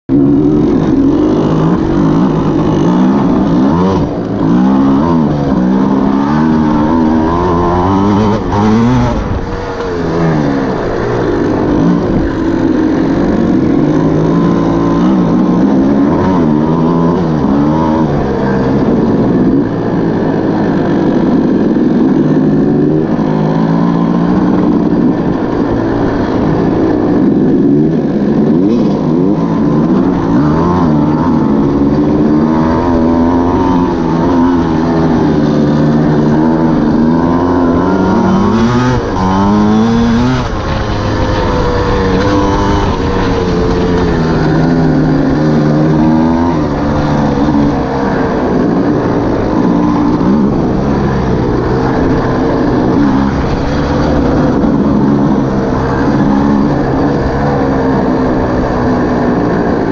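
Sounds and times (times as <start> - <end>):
dirt bike engine revving: 0.1 - 59.9.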